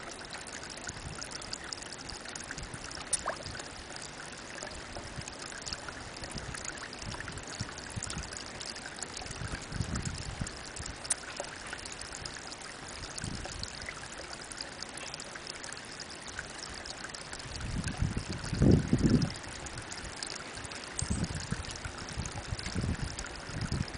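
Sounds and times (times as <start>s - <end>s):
water trickling into a pond: 0.0s - 23.9s.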